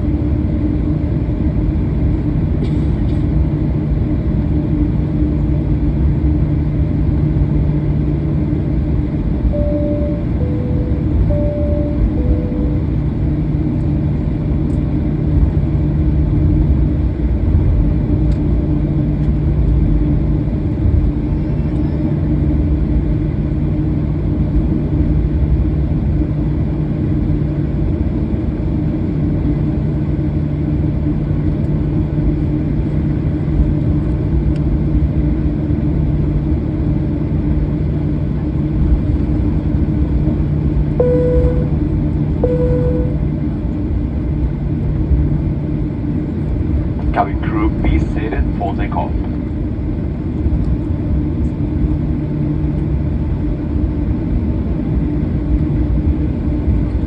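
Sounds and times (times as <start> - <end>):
airplane cabin engine hum: 0.0 - 57.0.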